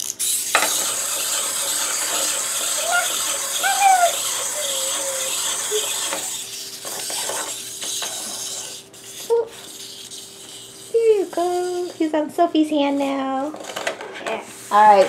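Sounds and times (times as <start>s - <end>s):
clockwork toy motor running: 0.0s - 12.1s.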